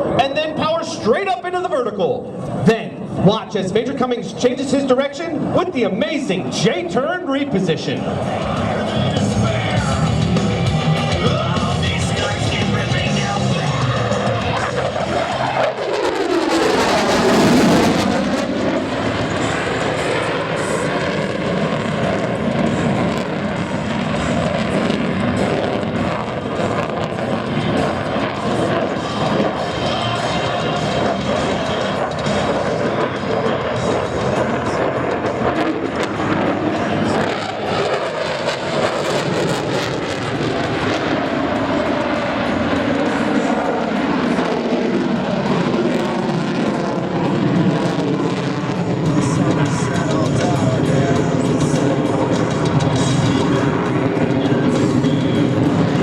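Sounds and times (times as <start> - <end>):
loud steady jet noise: 0.0 - 56.0.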